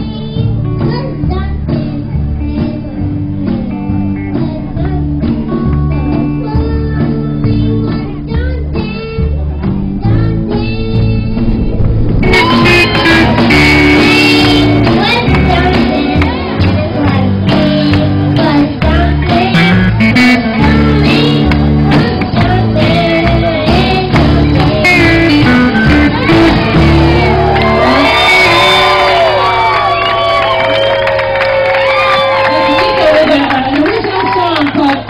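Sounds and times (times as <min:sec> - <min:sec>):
person singing: 0:00.0 - 0:29.8
bass line: 0:00.0 - 0:34.1
guitar: 0:00.0 - 0:35.0.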